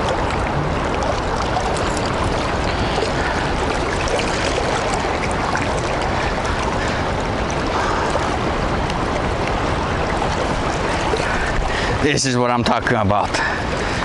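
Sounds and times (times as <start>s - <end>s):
rushing river current: 0.0s - 14.0s.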